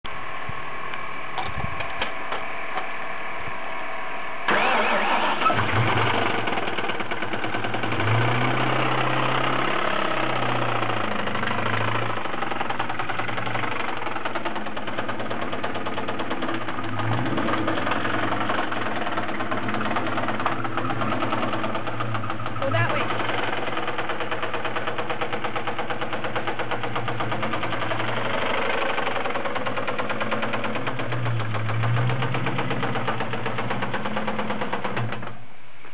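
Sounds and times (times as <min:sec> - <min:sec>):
engine running with rhythmic knock: 0:00.1 - 0:35.9
engine cranking: 0:04.5 - 0:35.5.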